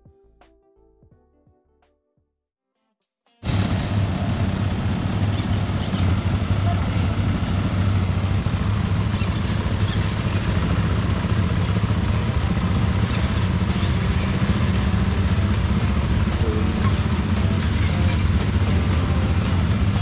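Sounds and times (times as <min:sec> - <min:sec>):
dirt bike engines idling: 0:03.4 - 0:20.0.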